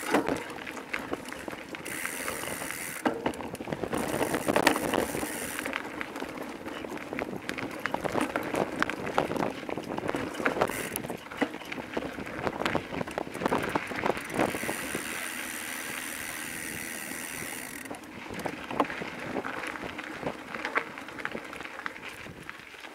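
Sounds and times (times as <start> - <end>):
bicycle rattling over dirt trail: 0.0 - 22.9
bicycle tyres whirring: 0.0 - 22.9.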